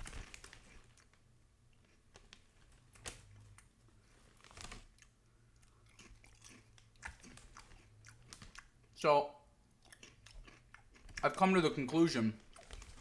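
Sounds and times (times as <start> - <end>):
potato chip being chewed: 0.1 - 9.0, 9.7 - 11.6, 12.4 - 13.0.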